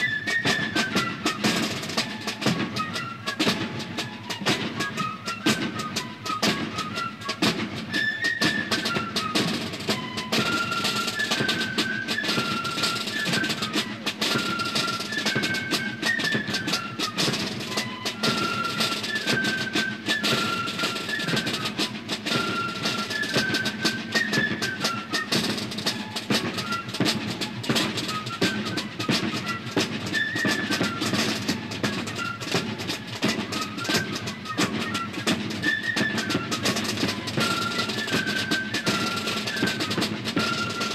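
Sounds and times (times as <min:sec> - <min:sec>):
fife melody: 0:00.0 - 0:40.9
snare drum rolls: 0:00.0 - 0:40.9.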